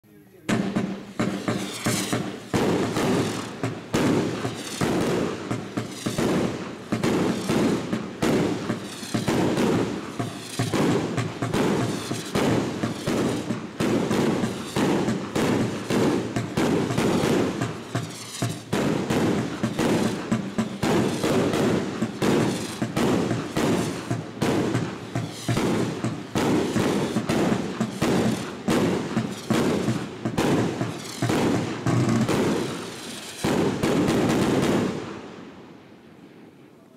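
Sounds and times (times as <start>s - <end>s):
fireworks cake firing shots: 0.4s - 35.6s.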